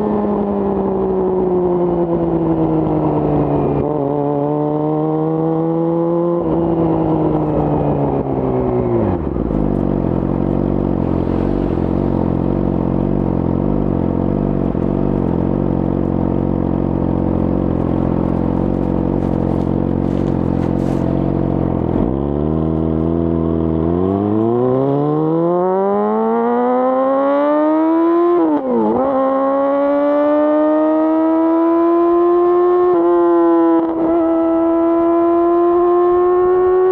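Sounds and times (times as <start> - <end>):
motorcycle engine revving and idling: 0.0 - 36.9.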